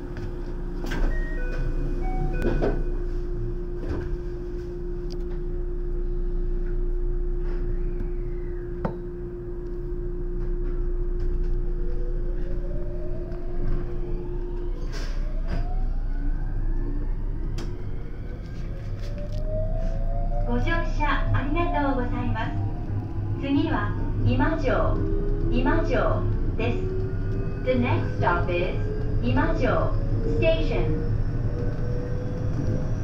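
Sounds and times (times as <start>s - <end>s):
steady hum: 1.8s - 33.0s
train motors whining: 5.2s - 33.0s.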